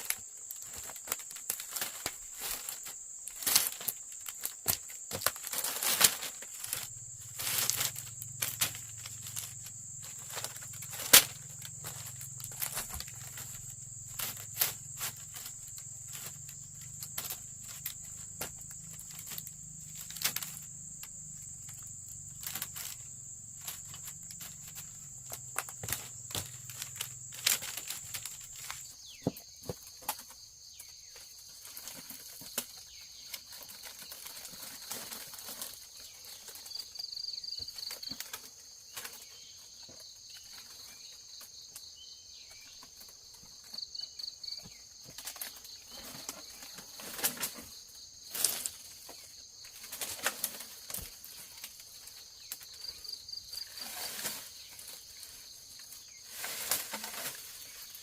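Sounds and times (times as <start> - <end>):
insect trills: 0.0 - 58.0
insects droning: 0.0 - 58.0
rustles: 0.0 - 58.0.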